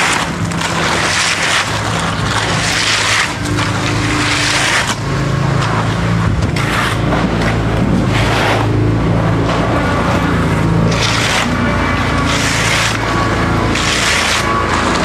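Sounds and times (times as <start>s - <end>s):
diesel engine under load: 0.0s - 15.0s
wet concrete scraping: 0.0s - 15.0s.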